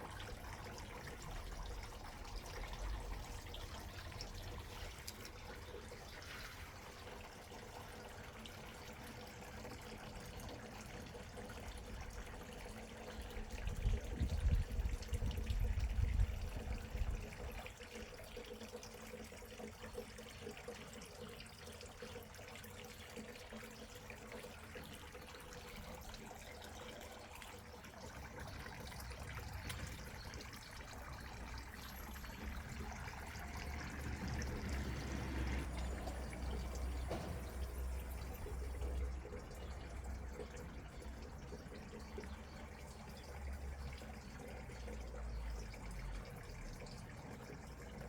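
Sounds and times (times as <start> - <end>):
water running: 0.0 - 46.2.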